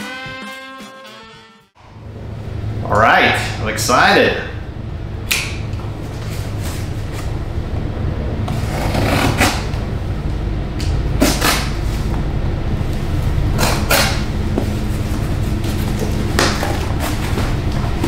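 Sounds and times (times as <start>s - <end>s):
steady low hum: 1.8s - 18.0s.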